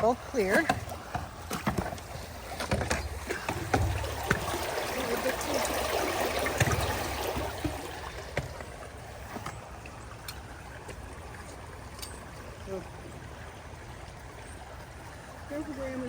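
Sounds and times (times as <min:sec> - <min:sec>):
water rushing through culvert: 0:00.0 - 0:16.0.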